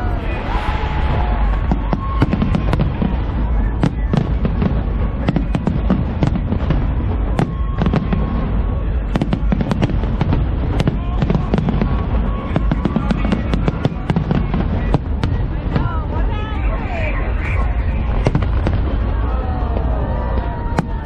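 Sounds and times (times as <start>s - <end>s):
fireworks bangs and cracks: 0.0s - 21.0s
low rumble of bursts: 0.0s - 21.0s.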